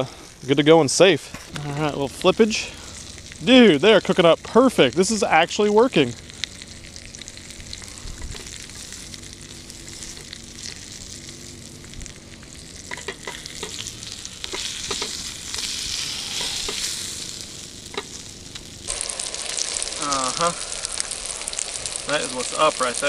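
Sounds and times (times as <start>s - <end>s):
fish fillets sizzling in oil: 1.5s - 23.0s.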